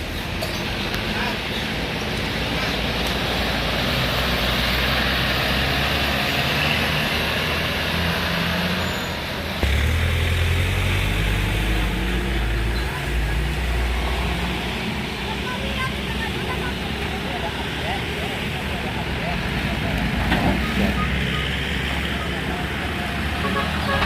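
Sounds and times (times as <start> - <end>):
heavy engine rumble: 0.0 - 24.0
road traffic passing: 0.0 - 24.0.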